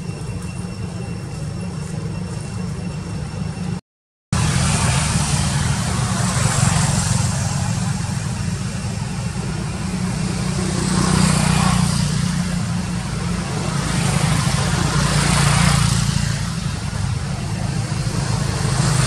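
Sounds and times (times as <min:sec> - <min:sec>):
rushing noise: 0:00.0 - 0:19.0.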